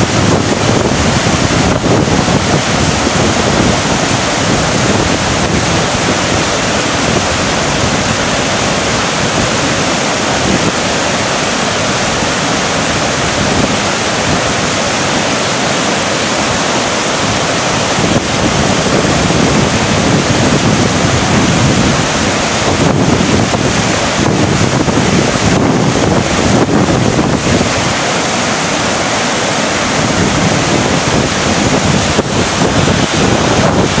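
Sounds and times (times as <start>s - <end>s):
river rapids rushing: 0.0s - 34.0s.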